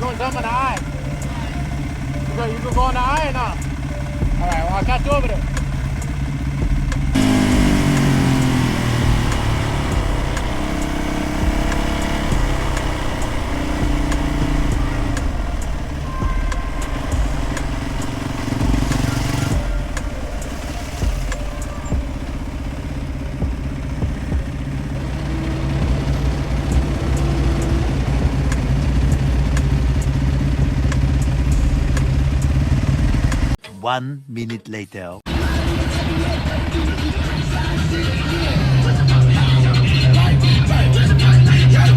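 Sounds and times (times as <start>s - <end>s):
motorcycle engine pulling away: 0.0s - 33.6s.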